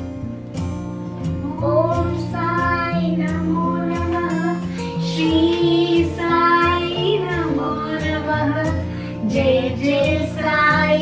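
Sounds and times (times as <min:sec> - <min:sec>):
high singing voice: 0:01.4 - 0:11.0.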